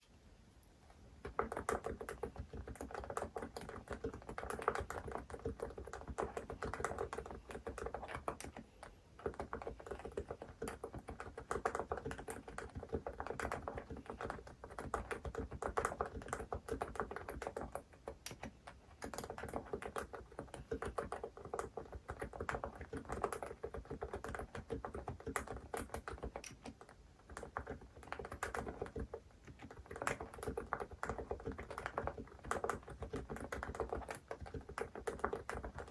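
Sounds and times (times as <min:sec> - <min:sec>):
fast typing on keyboard: 0:01.2 - 0:35.9.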